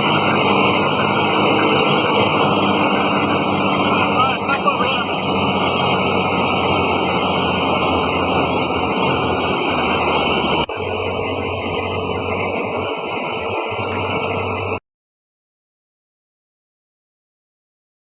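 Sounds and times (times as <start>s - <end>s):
continuous rushing noise: 0.0s - 14.8s
motor running: 0.0s - 14.8s.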